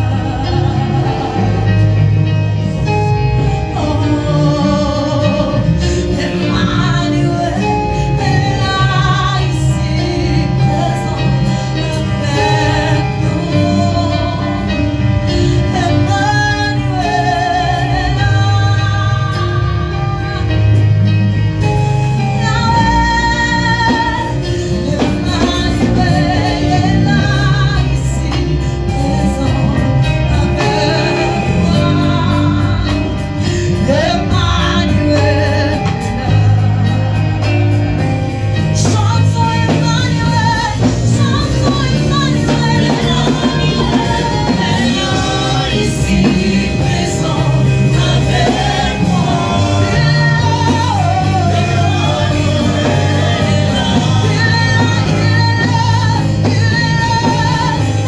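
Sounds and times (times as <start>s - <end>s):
bass line: 0.0s - 58.0s
gospel band with singers: 0.0s - 58.0s.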